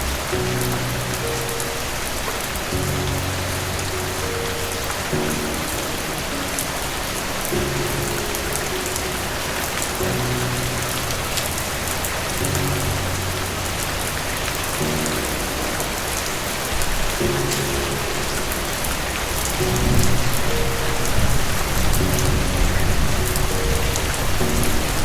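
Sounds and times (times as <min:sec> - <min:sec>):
soft low music notes: 0:00.0 - 0:25.0
steady rain: 0:00.0 - 0:25.0.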